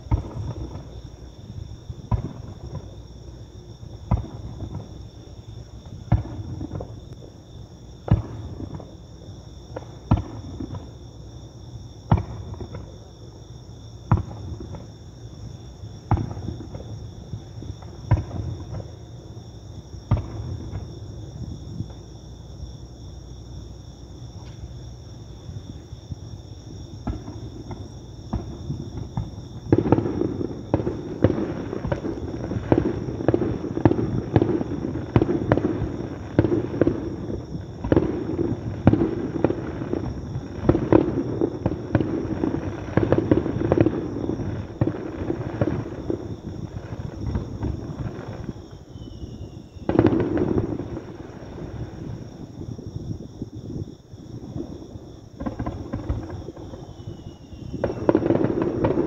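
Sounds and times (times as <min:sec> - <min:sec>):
fireworks banging and crackling: 0:00.0 - 0:03.2, 0:03.9 - 0:11.1, 0:12.0 - 0:13.2, 0:14.0 - 0:15.0, 0:16.0 - 0:22.1, 0:26.9 - 0:59.0
high insect trill: 0:00.0 - 0:59.0.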